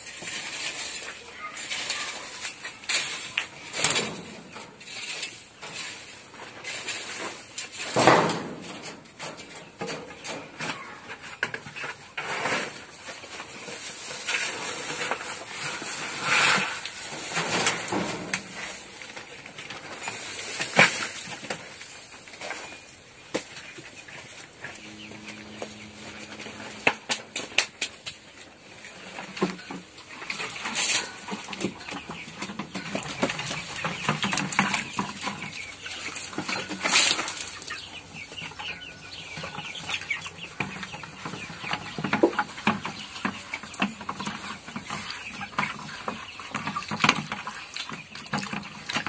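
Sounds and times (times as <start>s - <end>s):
rake scraping dirt floor: 0.0s - 49.0s.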